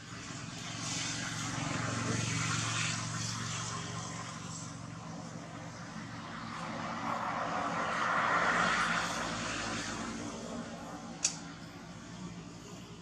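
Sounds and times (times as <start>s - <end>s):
passing vehicle engine rushing: 0.0s - 12.5s.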